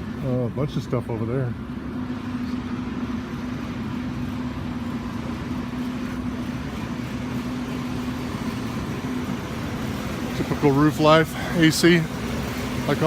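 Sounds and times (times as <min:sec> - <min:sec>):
hvac units humming: 0:00.0 - 0:13.0.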